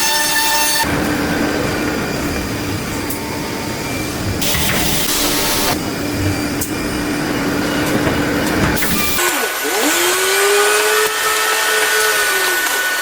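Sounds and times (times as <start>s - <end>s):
woodworking machine running: 0.8s - 13.0s.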